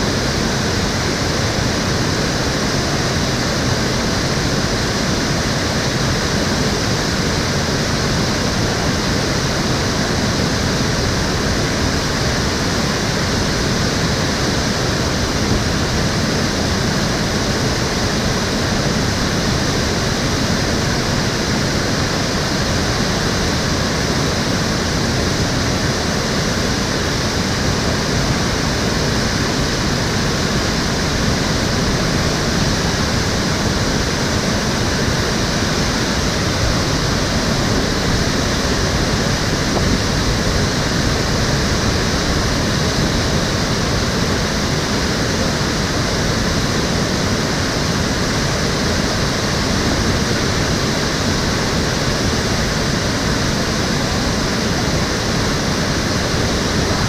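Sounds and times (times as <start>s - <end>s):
stream rushing and splashing: 0.0s - 57.0s.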